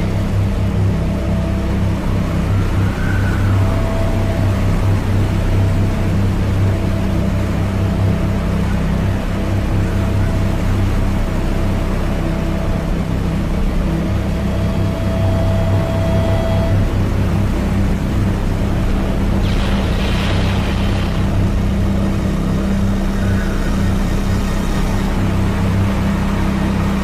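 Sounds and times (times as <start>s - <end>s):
low synthesizer drone: 0.0s - 27.0s
noisy hiss: 0.0s - 27.0s.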